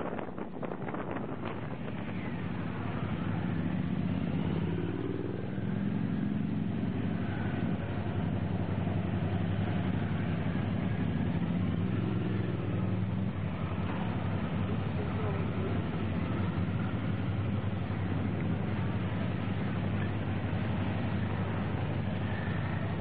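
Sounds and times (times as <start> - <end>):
motorcycles riding past: 0.0 - 23.0.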